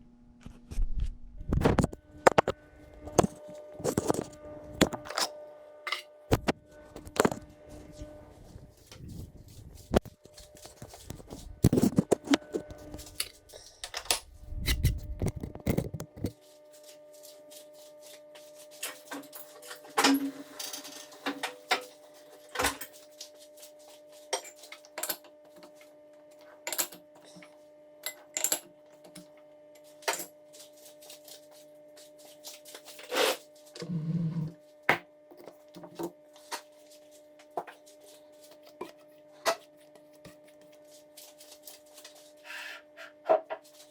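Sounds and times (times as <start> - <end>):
electrical hum: 0.0 - 43.9.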